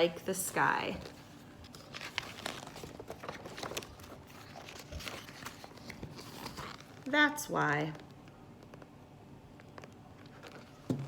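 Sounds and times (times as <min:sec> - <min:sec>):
paper pages crinkling and turning: 0:00.5 - 0:08.9, 0:09.5 - 0:11.0.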